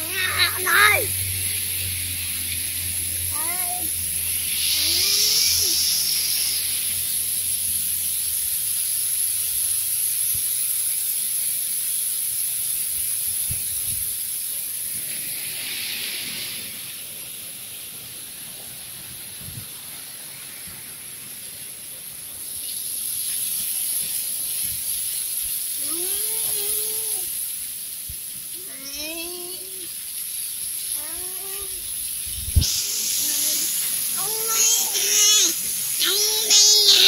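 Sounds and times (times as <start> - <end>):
waterfall rushing: 0.0 - 10.2, 14.5 - 37.0.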